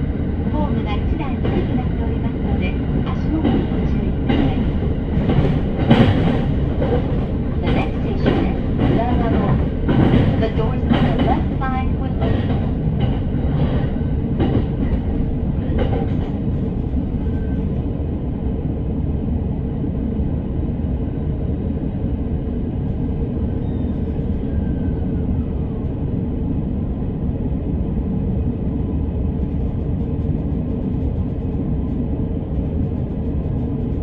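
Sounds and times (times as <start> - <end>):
train rumbling from inside carriage: 0.0 - 34.0.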